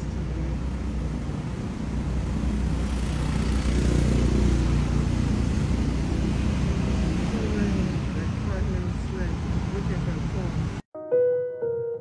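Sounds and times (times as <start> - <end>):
vehicle engine rumbling: 0.0 - 10.8.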